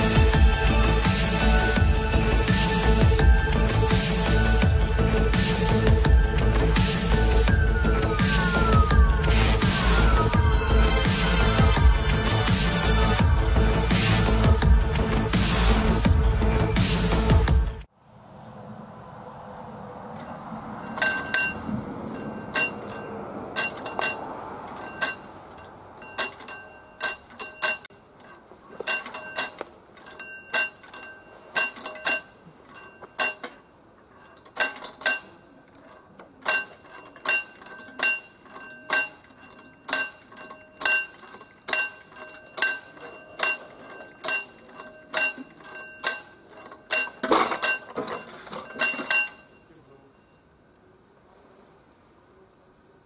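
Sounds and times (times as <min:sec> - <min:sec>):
level-crossing warning bell ringing: 0:00.0 - 0:13.8, 0:20.2 - 0:50.6.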